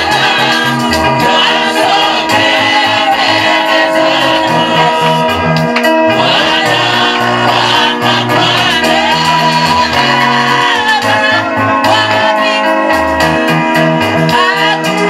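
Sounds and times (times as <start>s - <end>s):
voices singing together: 0.0s - 13.2s, 14.2s - 15.0s
moving bass line: 0.0s - 15.0s.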